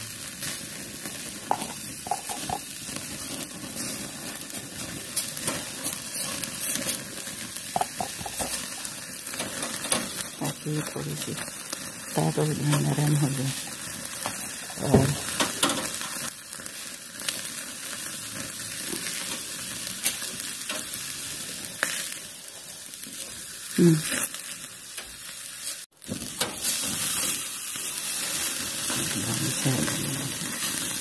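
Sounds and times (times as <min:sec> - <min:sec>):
meat sizzling over charcoal: 0:00.0 - 0:31.0.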